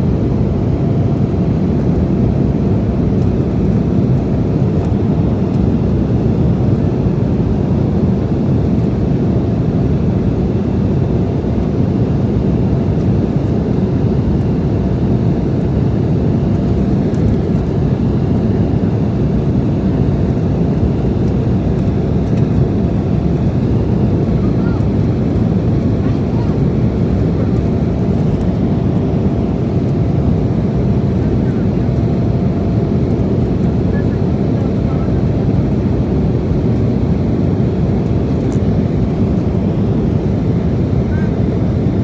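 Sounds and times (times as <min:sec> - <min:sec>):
airplane cabin noise: 0:00.0 - 0:42.0.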